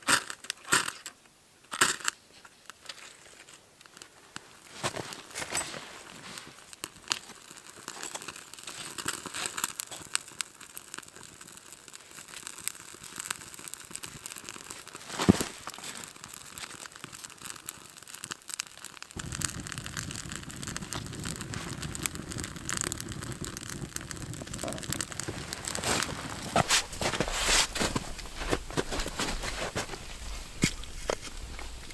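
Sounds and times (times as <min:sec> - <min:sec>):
fire crackling and popping: 0:00.0 - 0:31.9
wood shavings crinkling: 0:02.7 - 0:31.9.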